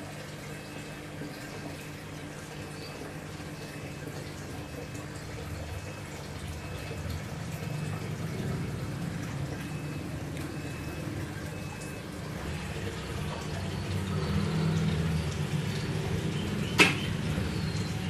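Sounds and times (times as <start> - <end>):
aquarium water trickling: 0.0 - 18.0.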